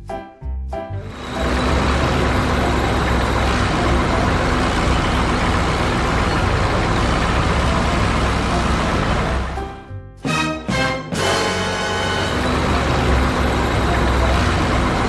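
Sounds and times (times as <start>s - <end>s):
heavy truck engine rumbling: 1.0s - 9.8s, 11.8s - 15.0s.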